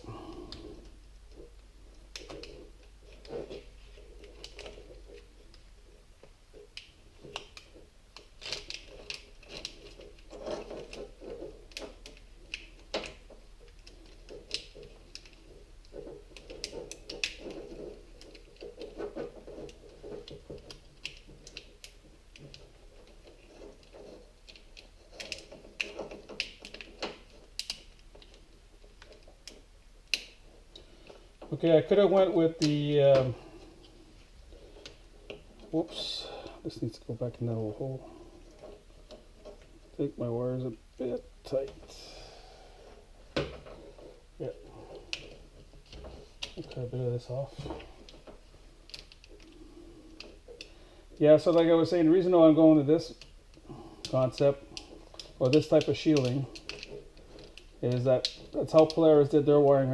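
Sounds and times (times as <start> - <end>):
wire shielding clicking and rustling: 0.0 - 59.9.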